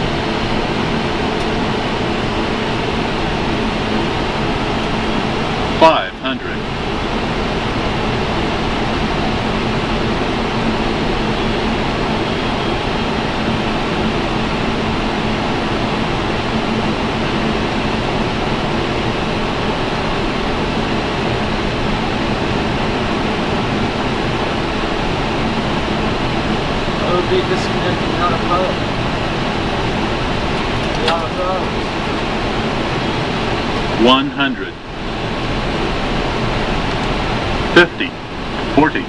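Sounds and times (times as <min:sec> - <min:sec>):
airflow and engine noise: 0:00.0 - 0:39.0.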